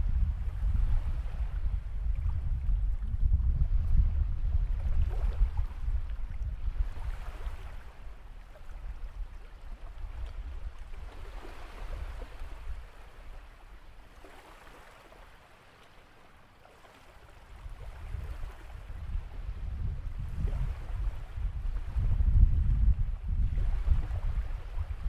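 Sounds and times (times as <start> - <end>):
wind rumbling on microphone: 0.0 - 15.3, 17.0 - 25.0.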